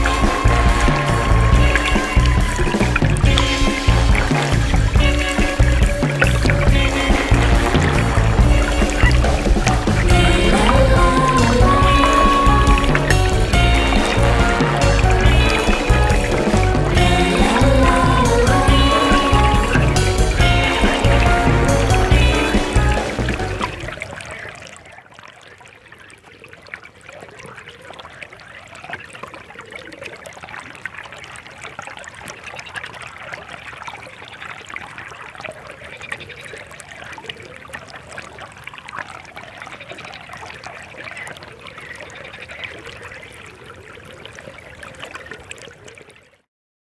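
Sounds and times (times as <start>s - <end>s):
water trickling and babbling: 0.0s - 46.5s.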